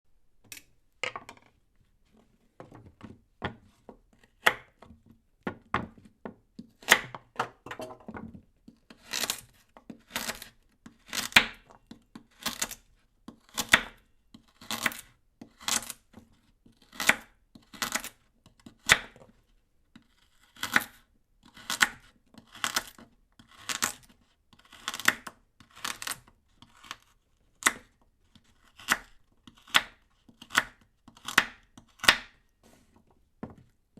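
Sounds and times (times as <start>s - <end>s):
knife cutting carrot on board: 2.6s - 7.4s, 8.6s - 19.3s, 19.9s - 33.7s.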